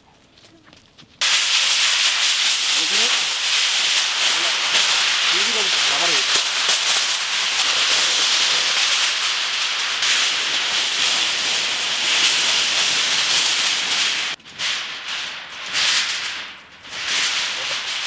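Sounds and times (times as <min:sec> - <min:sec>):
aluminium foil crinkling: 0:00.2 - 0:18.0.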